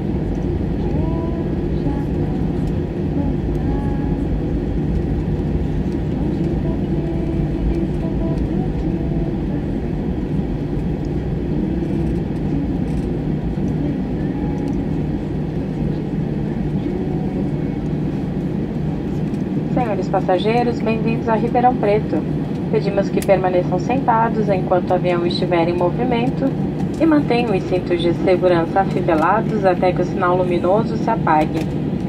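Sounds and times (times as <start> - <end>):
faint hum: 0.0 - 32.0
low rumble of engines and wheels: 0.0 - 32.0.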